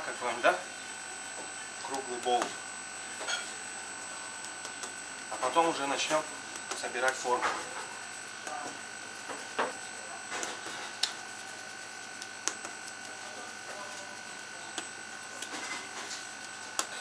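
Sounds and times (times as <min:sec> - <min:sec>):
high electrical whine: 0:00.0 - 0:17.0.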